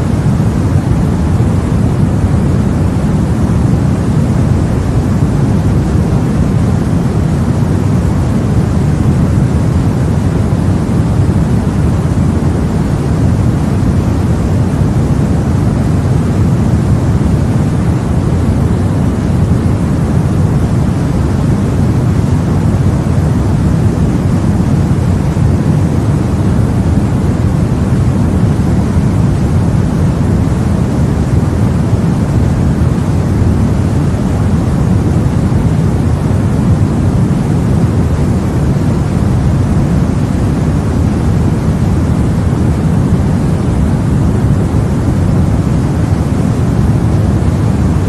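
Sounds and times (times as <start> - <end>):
deep white noise rushing: 0.0 - 48.0.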